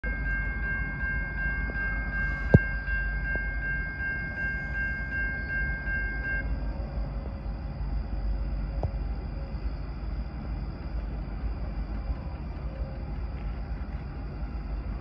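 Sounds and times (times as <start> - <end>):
crossing warning bell ringing: 0.0 - 15.0.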